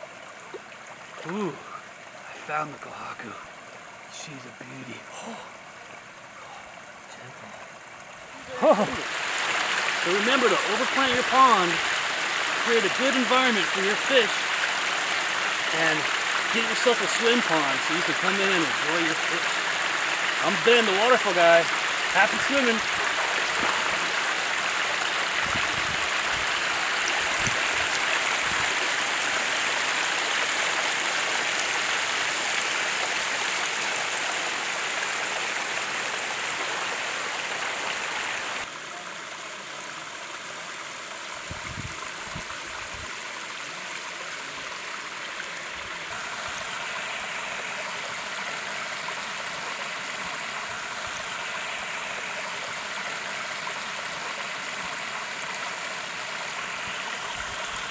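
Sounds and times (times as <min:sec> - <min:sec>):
waterfall splashing into pond: 0:00.0 - 0:57.9.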